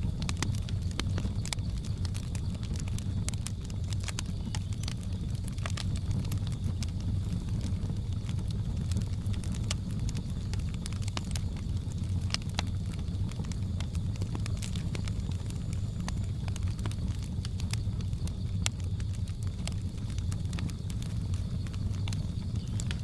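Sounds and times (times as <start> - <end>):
sharp pops and snaps: 0.0 - 23.0
wood fire crackling: 0.0 - 23.0.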